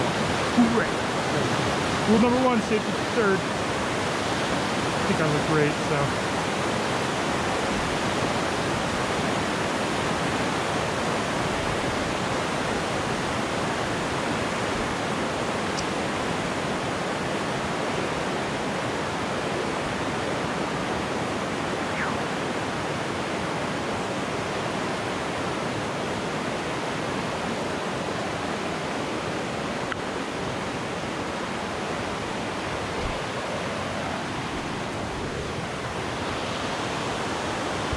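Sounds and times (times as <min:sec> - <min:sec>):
rushing river rapids: 0:00.0 - 0:37.9.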